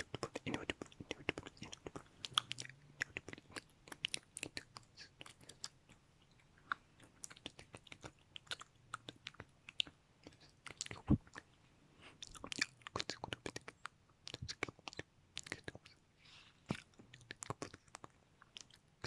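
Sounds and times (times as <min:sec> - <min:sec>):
wet mouth clicks and lip smacks: 0:00.0 - 0:11.5, 0:12.2 - 0:16.0, 0:16.7 - 0:18.9.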